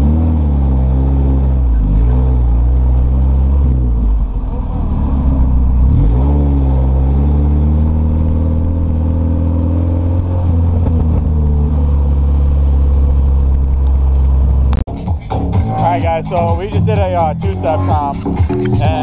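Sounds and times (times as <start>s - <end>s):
car engine running: 0.0s - 14.9s, 15.5s - 19.0s.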